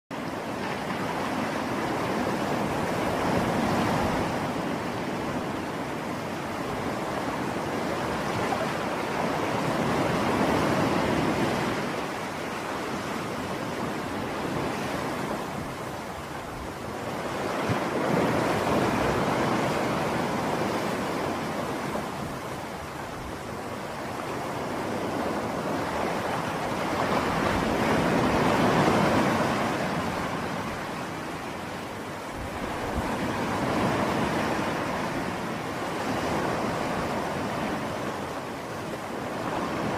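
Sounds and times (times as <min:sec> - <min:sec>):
sea waves breaking on beach: 0:00.1 - 0:39.9.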